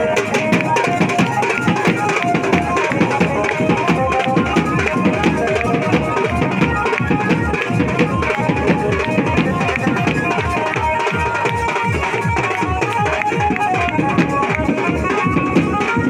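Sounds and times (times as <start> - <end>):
rapid drumming: 0.0 - 16.0
wedding band playing lively tune: 0.0 - 16.0.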